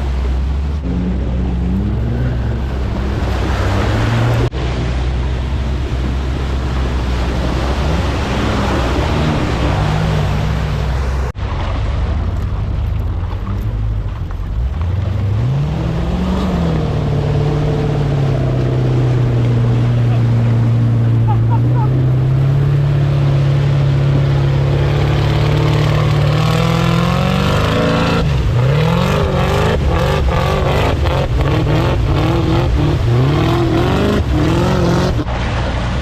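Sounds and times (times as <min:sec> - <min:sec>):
off-road engines revving: 0:00.0 - 0:36.0.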